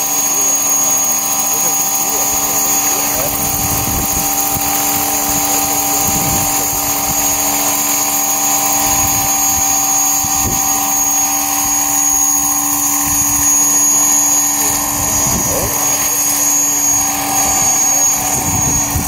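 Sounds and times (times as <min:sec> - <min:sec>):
electric motor whine: 0:00.0 - 0:19.0
helicopter rotor noise: 0:00.0 - 0:19.0.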